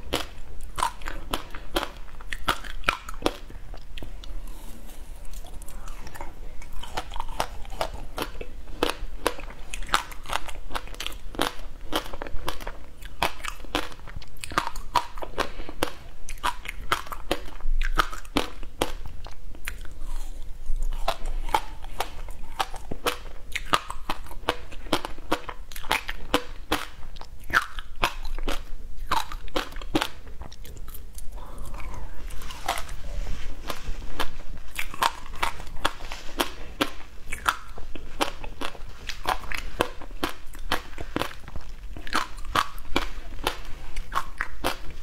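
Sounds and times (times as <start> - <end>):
ice crunching being chewed: 0.0 - 45.0.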